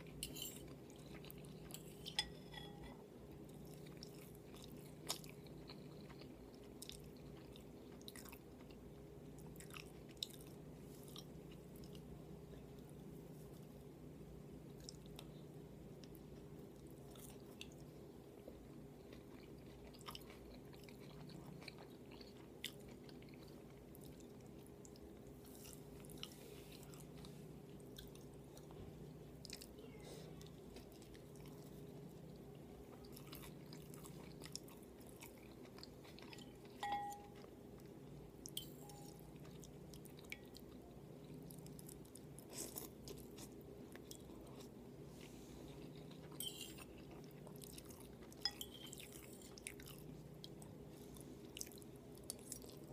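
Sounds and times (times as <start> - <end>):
steady low hum: 0.0 - 52.9
chewing mouth noises: 3.4 - 12.1, 18.5 - 28.8, 29.4 - 52.9.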